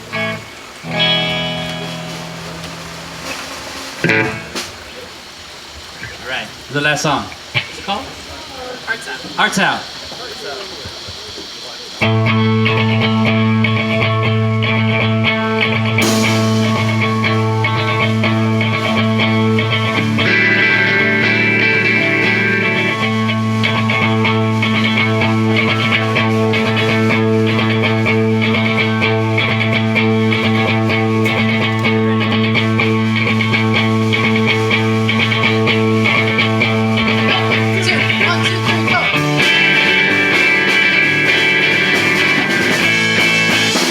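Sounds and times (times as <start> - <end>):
electric guitar droning chord: 0.0 - 4.7, 12.0 - 43.9.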